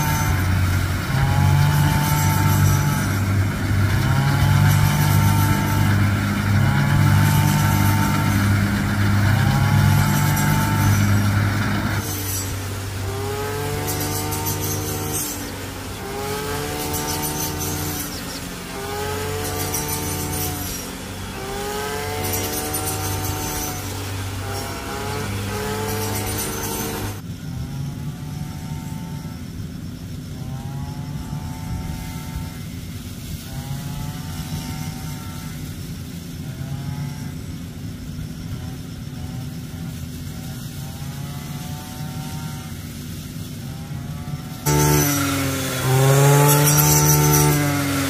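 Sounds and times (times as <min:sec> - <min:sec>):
small petrol engine running: 0:00.0 - 0:48.0.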